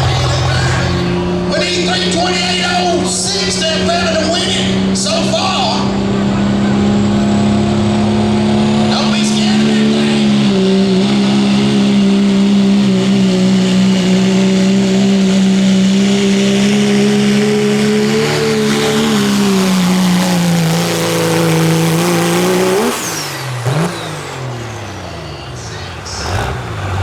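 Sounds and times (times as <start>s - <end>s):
diesel truck engine at high revs: 0.0s - 27.0s.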